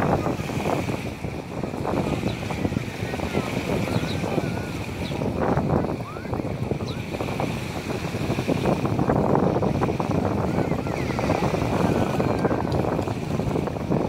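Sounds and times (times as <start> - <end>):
surf washing: 0.0 - 14.0
wind buffeting microphone: 0.0 - 14.0.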